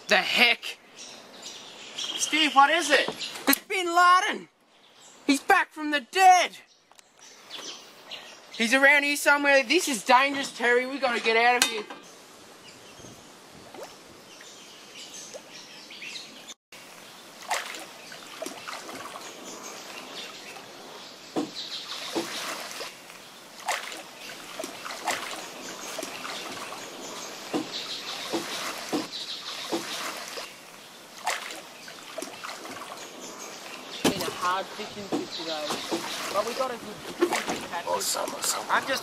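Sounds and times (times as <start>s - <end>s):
birds chirping: 0.0s - 39.0s
water splashing and trickling: 7.2s - 39.0s.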